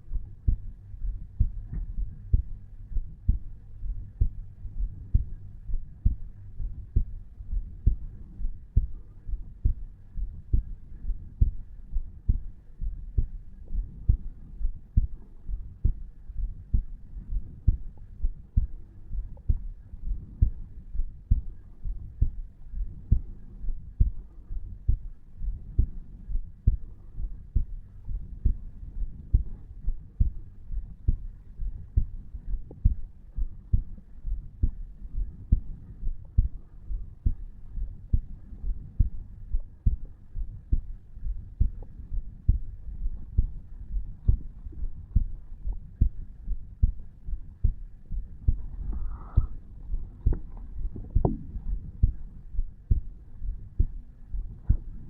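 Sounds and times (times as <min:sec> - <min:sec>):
heartbeat thumps: 0:00.0 - 0:55.0.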